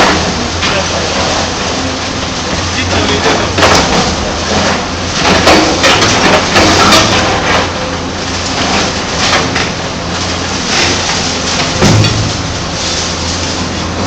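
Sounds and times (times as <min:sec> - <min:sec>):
excavator diesel engine running: 0:00.0 - 0:14.0
rock and soil crunching and pouring: 0:00.0 - 0:14.0.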